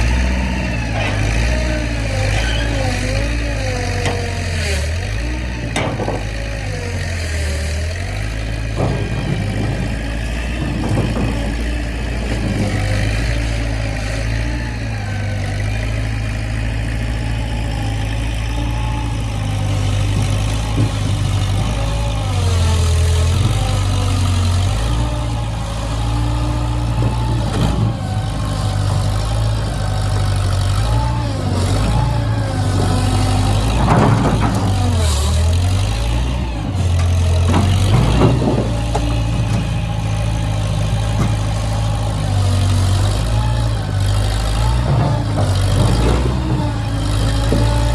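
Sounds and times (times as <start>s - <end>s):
skid loader engine running: 0.0s - 47.9s.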